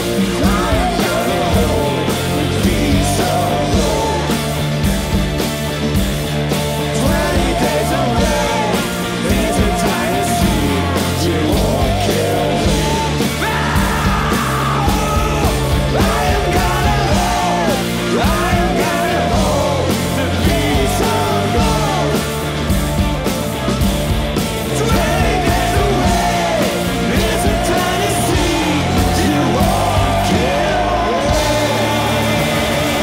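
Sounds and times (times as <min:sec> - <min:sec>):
women singing: 0:00.0 - 0:04.6, 0:06.9 - 0:22.2, 0:24.7 - 0:33.0
live pop-rock band: 0:00.0 - 0:33.0.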